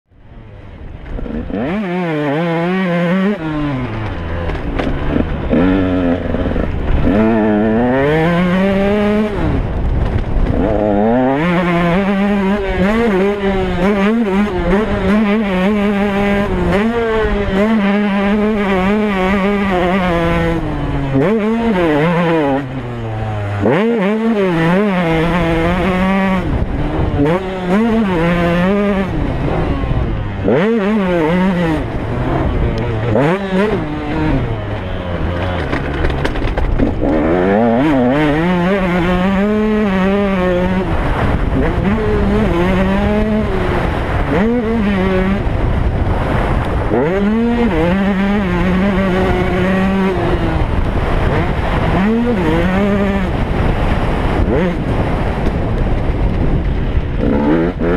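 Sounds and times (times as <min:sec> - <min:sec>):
motocross engine revving: 0:00.4 - 0:57.9.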